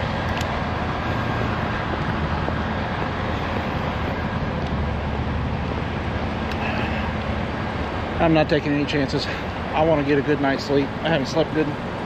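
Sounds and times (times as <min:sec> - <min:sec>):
diesel truck engines idling: 0:00.0 - 0:12.0.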